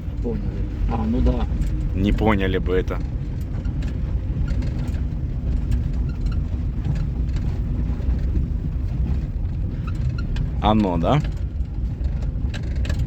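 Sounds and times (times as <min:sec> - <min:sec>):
car rumble on rough road: 0:00.0 - 0:13.0
rattling and creaking knocks: 0:00.0 - 0:13.0.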